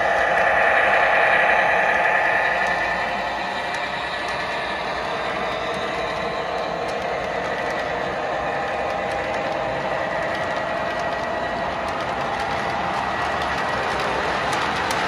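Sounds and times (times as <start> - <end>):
toy train cars rumbling on track: 0.0 - 15.0
wheels clicking over track: 0.0 - 15.0.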